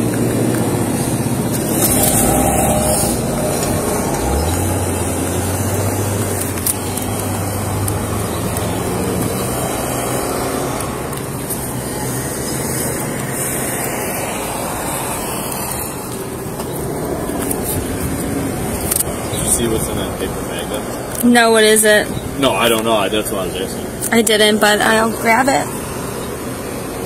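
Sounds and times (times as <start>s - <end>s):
roadside traffic noise: 0.0s - 27.0s
vehicle engine humming close by: 0.0s - 27.0s.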